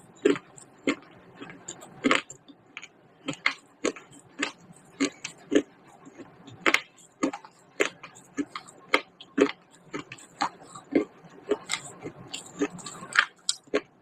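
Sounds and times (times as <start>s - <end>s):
clay pieces crunching when chewed: 0.1s - 14.0s.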